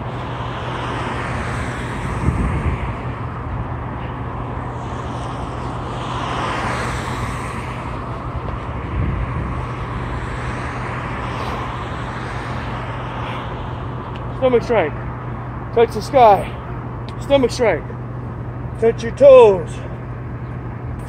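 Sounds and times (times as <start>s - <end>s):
road traffic hum: 0.0s - 21.0s
vehicle passing by: 0.0s - 21.0s.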